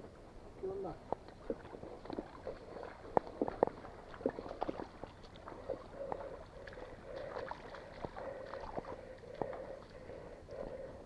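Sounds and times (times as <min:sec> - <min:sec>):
footsteps splashing through stream: 0:01.1 - 0:10.9.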